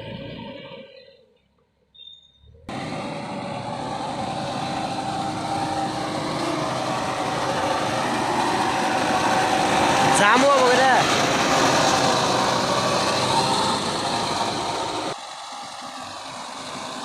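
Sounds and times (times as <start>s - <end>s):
diesel engine running: 2.6s - 17.0s.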